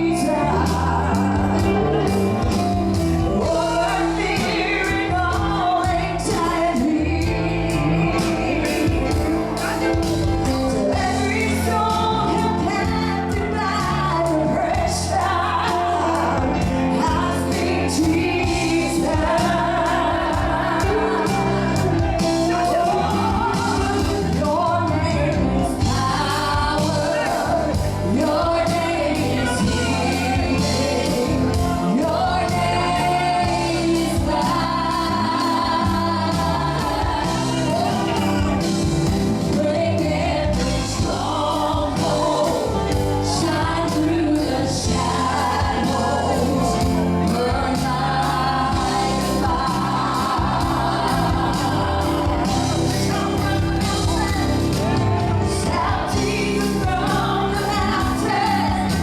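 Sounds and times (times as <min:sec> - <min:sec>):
band playing: 0:00.0 - 0:59.0
bass and drums: 0:00.0 - 0:59.0
singers: 0:00.0 - 0:59.0.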